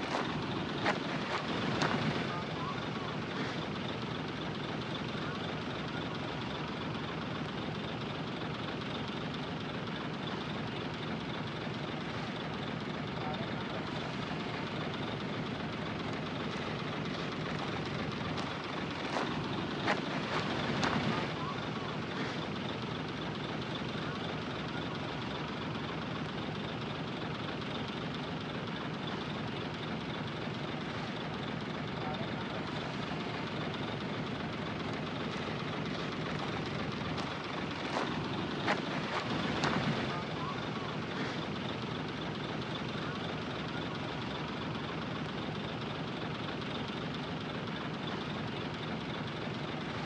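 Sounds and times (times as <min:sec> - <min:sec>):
heavy machinery diesel engine: 0:00.0 - 0:50.0.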